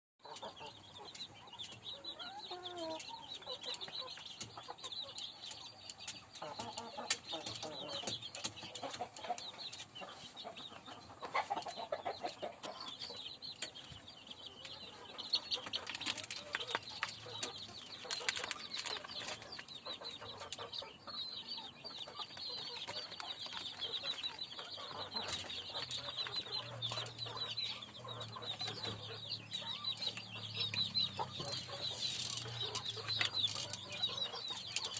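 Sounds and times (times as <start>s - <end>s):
chickens clucking: 0.2s - 34.9s.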